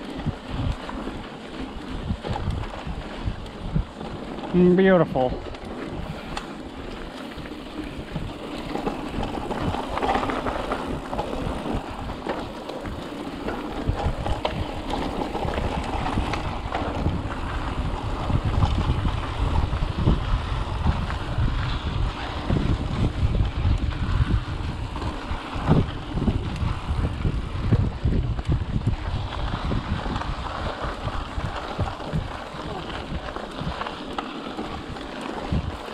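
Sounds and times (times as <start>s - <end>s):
bike rattling and knocking: 0.0s - 35.9s
bike tyres rumbling on dirt: 0.0s - 35.9s
wind rushing on microphone: 0.0s - 35.9s.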